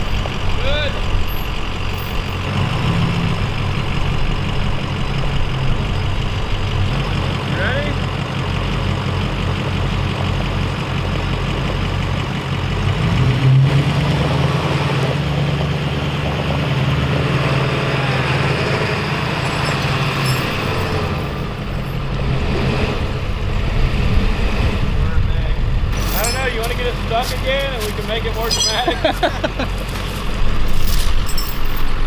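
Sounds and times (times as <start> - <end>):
heavy truck engine revving: 0.0 - 32.0.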